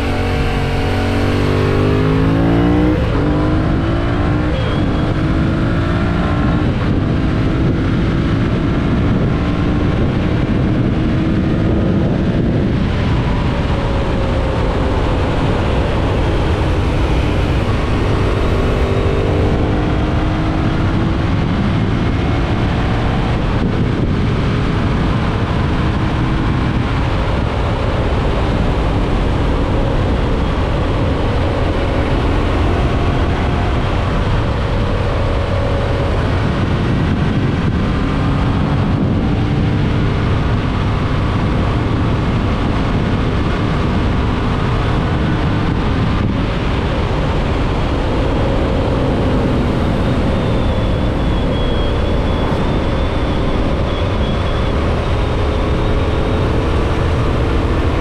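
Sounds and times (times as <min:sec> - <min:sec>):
motorcycle engine under throttle: 0:00.0 - 0:58.0
wind rush: 0:00.0 - 0:58.0.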